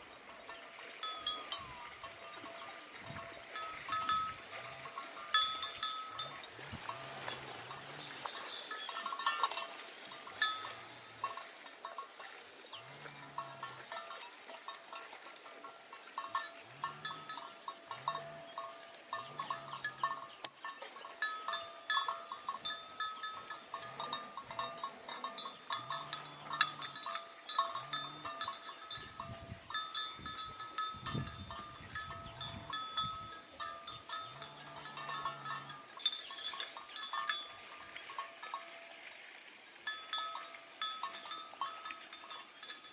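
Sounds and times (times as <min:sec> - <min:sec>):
livestock bells clanking: 0:00.0 - 0:42.9.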